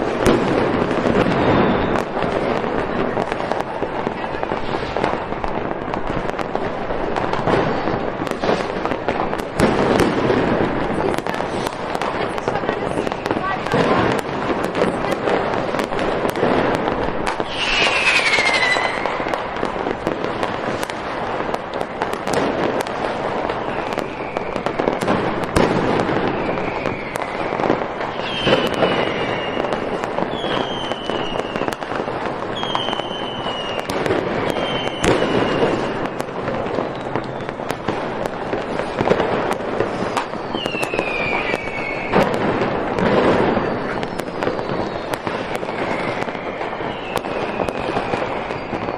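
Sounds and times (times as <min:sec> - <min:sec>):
whistling rockets: 0:00.0 - 0:05.2, 0:06.1 - 0:48.9
fireworks crackling and banging: 0:00.0 - 0:48.9.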